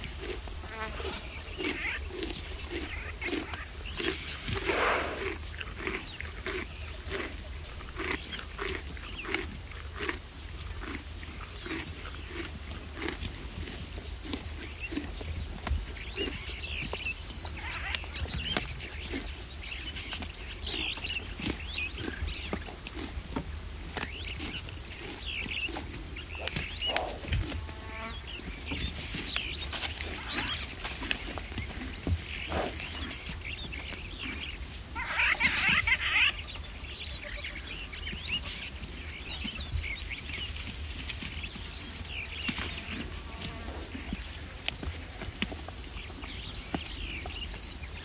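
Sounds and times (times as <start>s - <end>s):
birds calling: 0.0s - 10.2s, 10.8s - 45.2s
zebra tearing and chewing grass: 0.0s - 17.0s, 17.8s - 35.0s, 38.9s - 47.1s.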